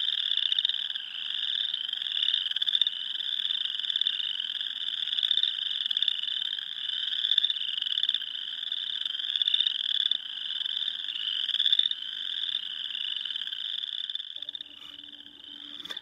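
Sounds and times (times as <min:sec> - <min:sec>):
frogs trilling chorus: 0:00.0 - 0:16.0.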